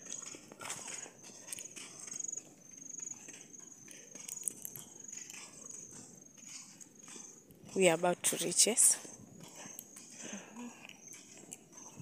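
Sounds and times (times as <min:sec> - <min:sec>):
footsteps on dirt road: 0:00.0 - 0:12.0
insect chirping: 0:00.0 - 0:12.0.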